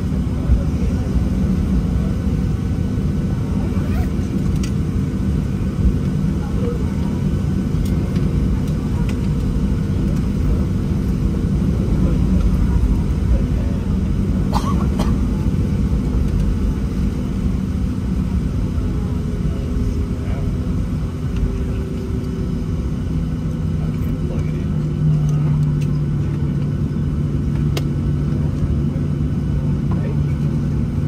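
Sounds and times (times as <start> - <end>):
airplane cabin rumble: 0.0 - 31.0
steady hum: 0.0 - 31.0.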